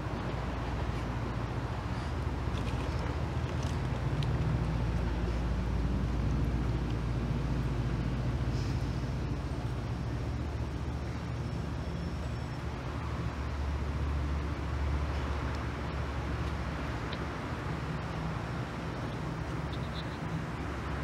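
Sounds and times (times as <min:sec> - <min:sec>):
low rumble with hiss: 0:00.0 - 0:21.0.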